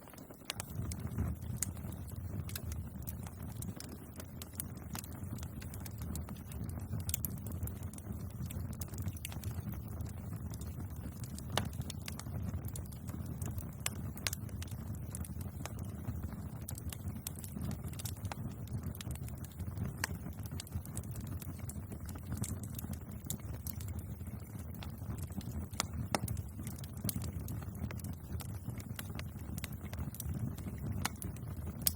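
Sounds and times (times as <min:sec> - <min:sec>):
burning wood crackling: 0:00.0 - 0:31.9
flames rumbling: 0:00.0 - 0:31.9.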